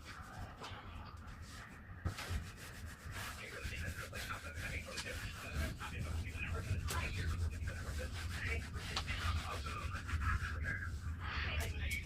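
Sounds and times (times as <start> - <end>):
hand scrubbing a door: 1.3 - 11.2.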